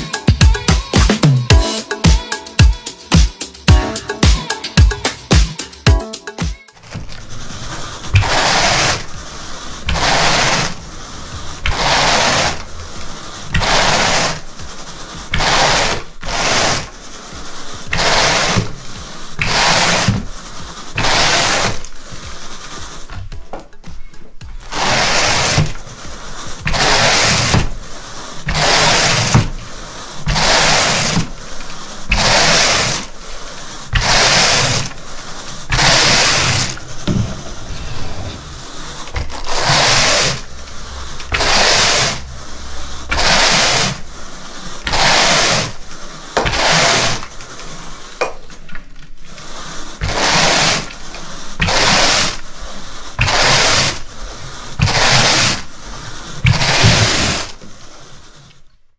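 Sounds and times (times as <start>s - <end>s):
rake scratching carpet: 0.0s - 58.7s.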